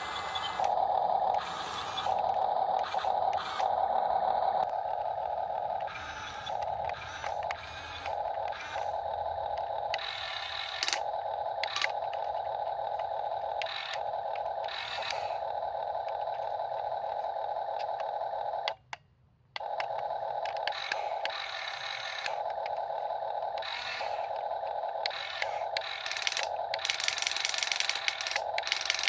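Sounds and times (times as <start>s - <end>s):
electric motors whining: 0.0s - 18.8s, 19.6s - 29.0s.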